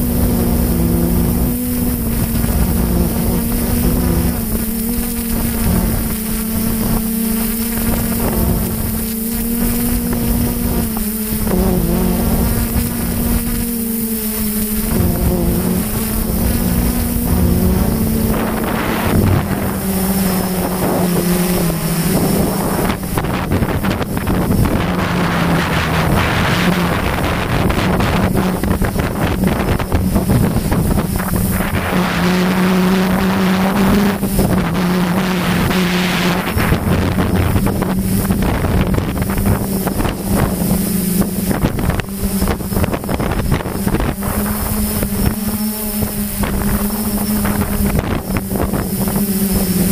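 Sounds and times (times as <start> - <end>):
drone motors humming: 0.0 - 49.9
wind buffeting microphone: 0.0 - 49.9.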